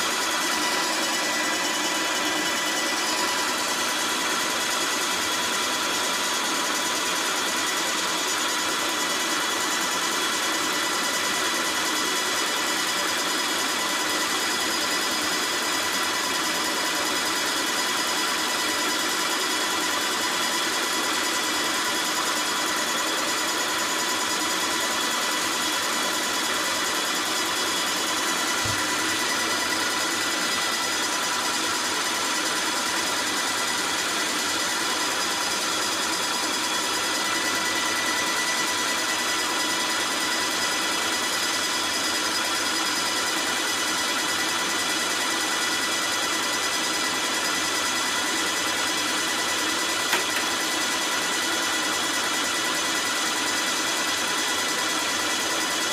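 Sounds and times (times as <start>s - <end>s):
pump motor whine: 0.0s - 55.9s.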